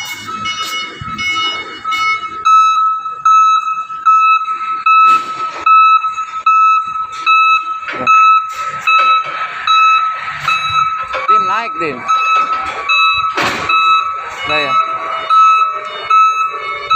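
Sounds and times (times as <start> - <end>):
clunks: 0.0 - 16.9
forklift reversing beeper: 0.0 - 16.9
steady tone: 0.0 - 16.9.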